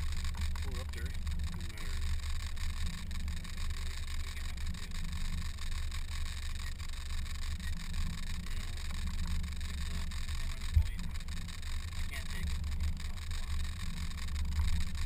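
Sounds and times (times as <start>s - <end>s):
boat motor rumbling: 0.0s - 15.0s.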